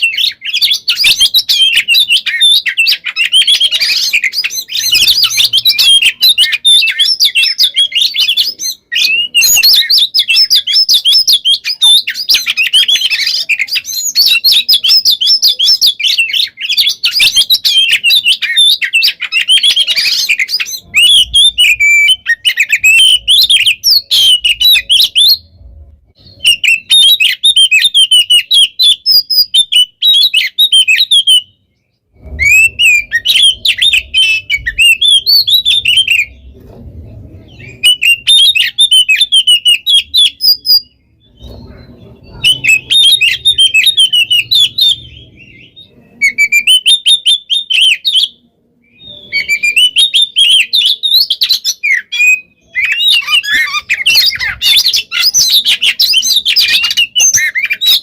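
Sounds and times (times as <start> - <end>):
bird singing rapid chirps and trills: 0.0 - 58.0.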